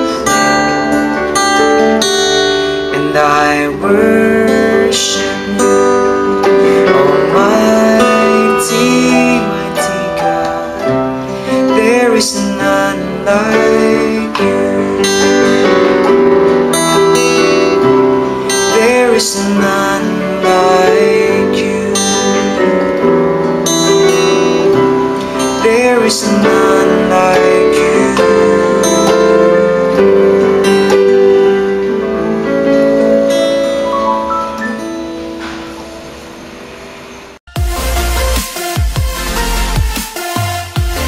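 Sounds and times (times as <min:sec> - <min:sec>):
electronic keyboard: 0:00.0 - 0:41.0
guitar playing: 0:00.0 - 0:41.0.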